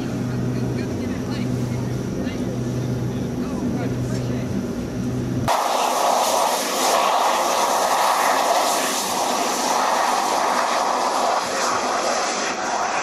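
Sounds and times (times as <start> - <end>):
droning cabin hum: 0.0 - 13.0
faint steady whine: 0.0 - 13.0
propeller engines rushing: 0.0 - 13.0.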